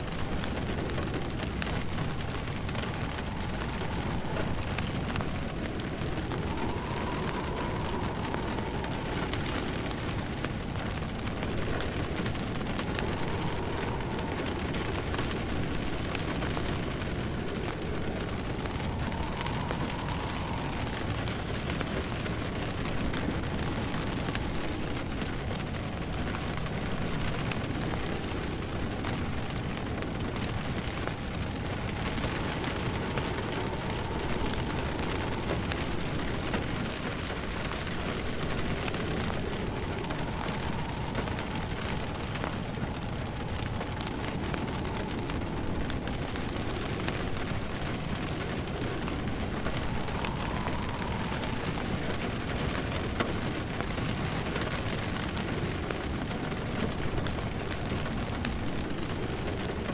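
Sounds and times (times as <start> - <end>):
fire crackling in fireplace: 0.0 - 59.9
rain pattering: 0.0 - 59.9.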